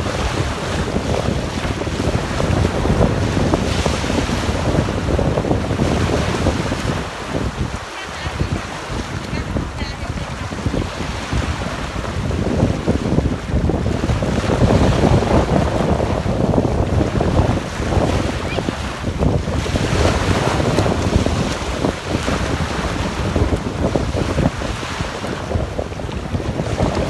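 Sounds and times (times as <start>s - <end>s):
small waves breaking: 0.0s - 27.0s
wind buffeting microphone: 0.0s - 27.0s.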